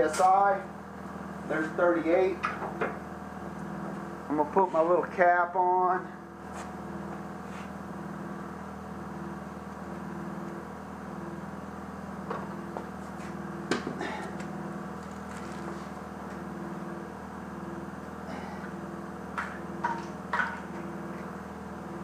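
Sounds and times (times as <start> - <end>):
pulsing machine hum: 0.0 - 22.0.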